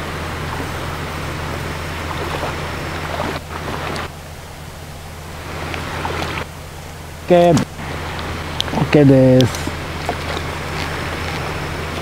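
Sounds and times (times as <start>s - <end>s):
low hum: 0.0s - 12.0s
rushing outdoor noise: 0.0s - 12.0s.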